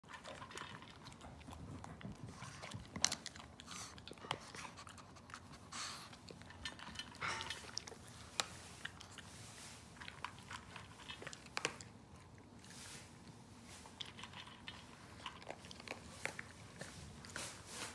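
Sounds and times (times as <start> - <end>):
dog crunching dry kibble: 0.0 - 12.7, 13.8 - 17.7.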